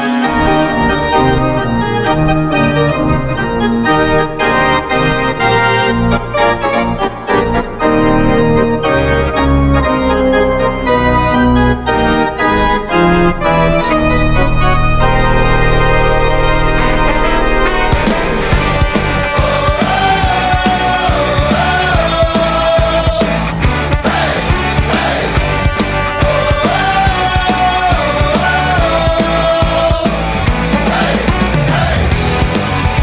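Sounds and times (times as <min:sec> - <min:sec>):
arena organ playing: 0:00.0 - 0:33.0.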